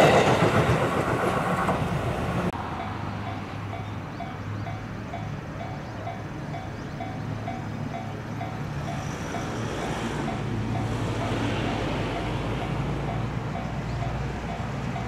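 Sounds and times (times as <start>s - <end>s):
train rumbling past on rails: 0.0s - 15.0s.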